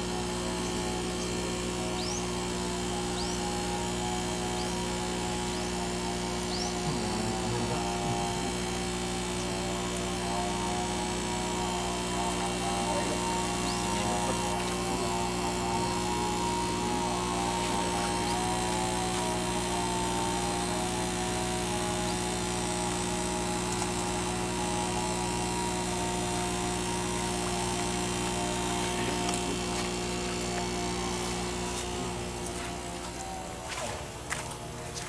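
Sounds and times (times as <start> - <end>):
electric air pumps droning: 0.0 - 35.0.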